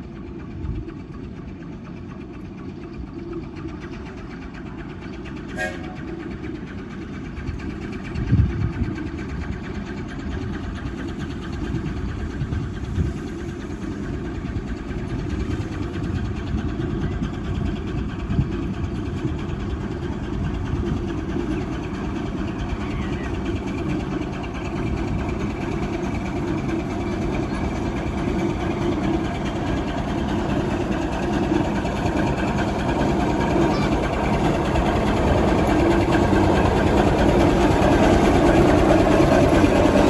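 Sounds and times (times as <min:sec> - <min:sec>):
steam engine rumbling: 0:00.0 - 0:40.0.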